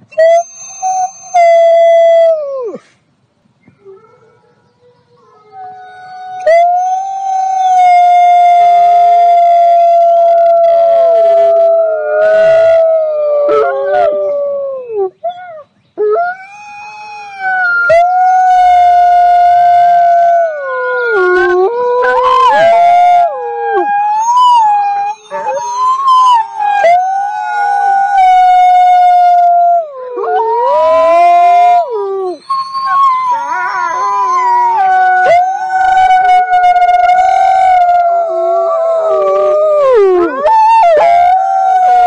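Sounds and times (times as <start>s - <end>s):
wolves howling: 3.8s - 42.0s.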